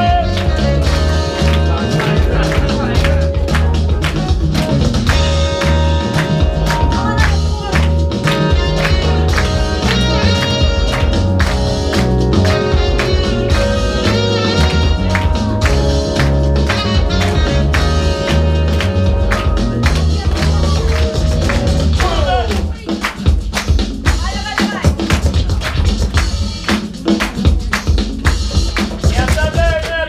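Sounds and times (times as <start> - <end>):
loud music with drum beat: 0.0 - 30.0.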